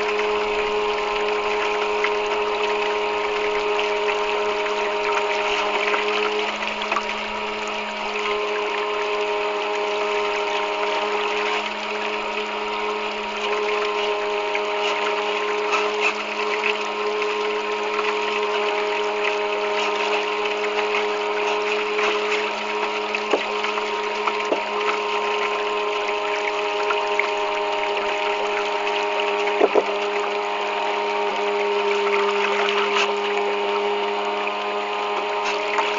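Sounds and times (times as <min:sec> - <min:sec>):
electric motor whine: 0:00.0 - 0:35.9
water hissing: 0:00.0 - 0:35.9.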